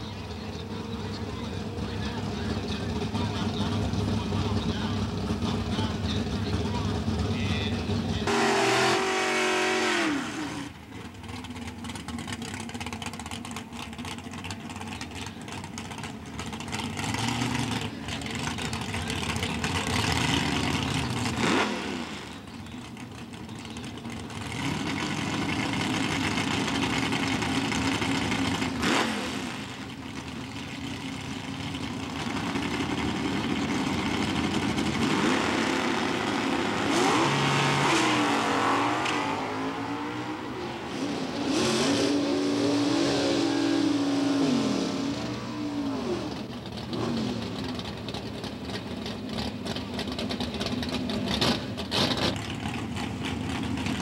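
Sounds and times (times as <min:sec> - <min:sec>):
drag car engine idling and revving: 0:00.0 - 0:54.0.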